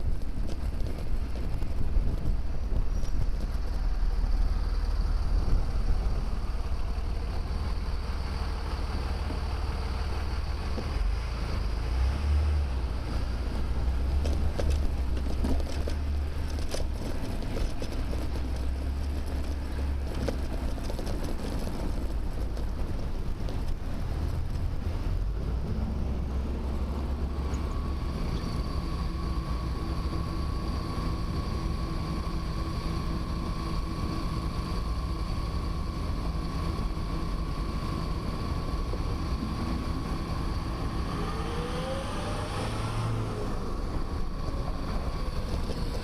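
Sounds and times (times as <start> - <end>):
road and traffic noise: 0.0 - 46.0
wind buffeting microphone: 0.0 - 46.0.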